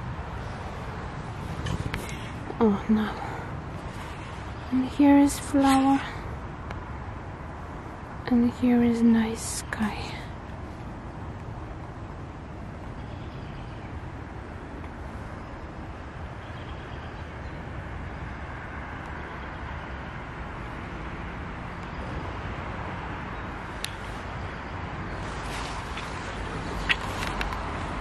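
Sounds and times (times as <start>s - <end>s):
distant road traffic: 0.0s - 28.0s.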